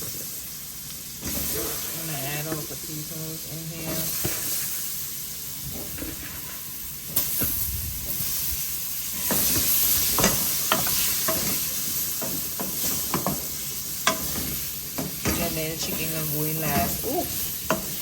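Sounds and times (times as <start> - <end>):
potatoes sizzling in a pot: 0.0 - 18.0.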